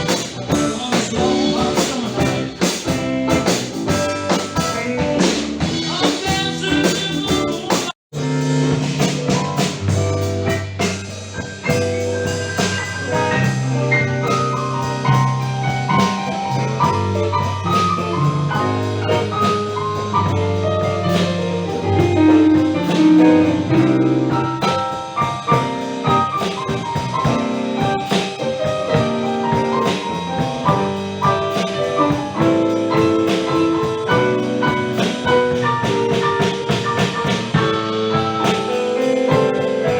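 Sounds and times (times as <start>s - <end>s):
drums: 0.0s - 39.9s
live band playing: 0.0s - 39.9s.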